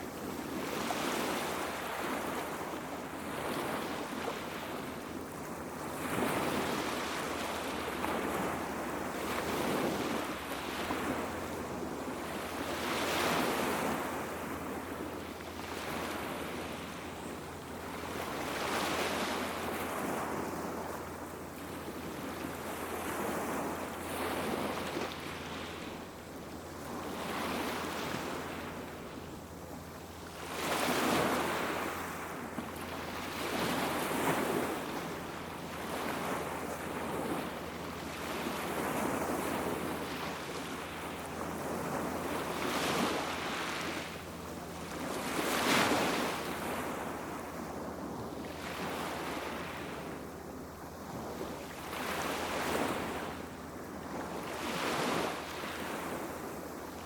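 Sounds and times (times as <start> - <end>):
small sea waves breaking: 0.0 - 57.0.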